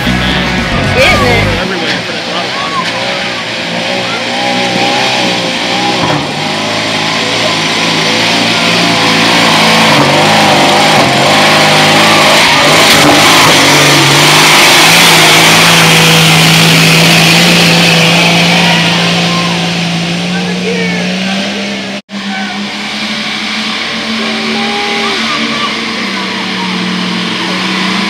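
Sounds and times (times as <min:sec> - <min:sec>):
engine revving hard: 0:00.0 - 0:28.0.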